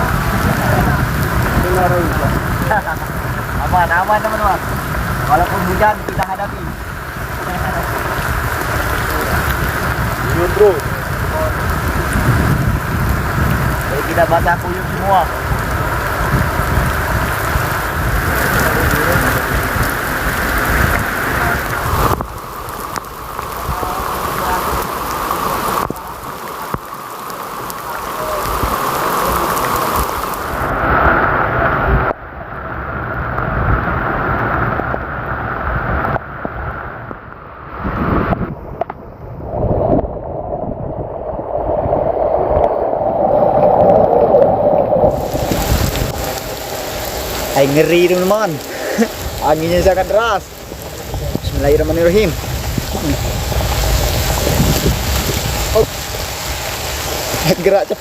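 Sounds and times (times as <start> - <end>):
gusting wind: 0.0 - 58.0
heavy rain: 0.0 - 58.0.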